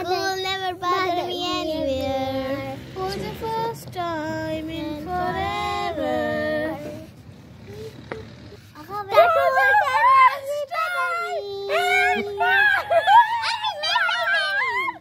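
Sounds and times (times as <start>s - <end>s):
child singing: 0.0s - 7.1s, 8.8s - 15.0s.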